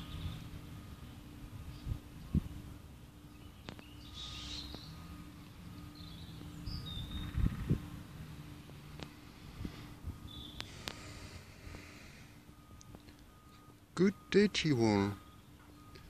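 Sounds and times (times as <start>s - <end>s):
small birds chirping: 0.0s - 8.0s, 8.6s - 16.0s.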